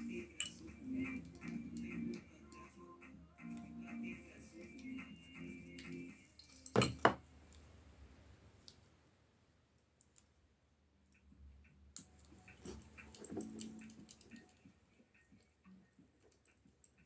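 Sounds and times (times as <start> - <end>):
faint background music: 0.0 - 8.1, 10.7 - 17.0.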